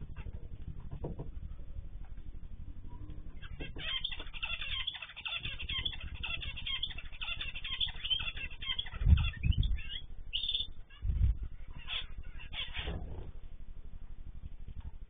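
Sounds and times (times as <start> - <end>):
low microphone hum: 0.0 - 15.0
small birds chirping and twittering: 0.0 - 15.0.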